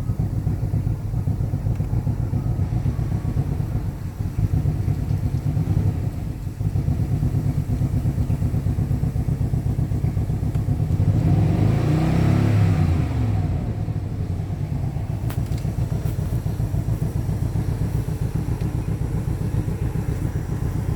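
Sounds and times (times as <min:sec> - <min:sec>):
car engine idling: 0:00.0 - 0:20.9
engine throttle blip: 0:00.0 - 0:20.9.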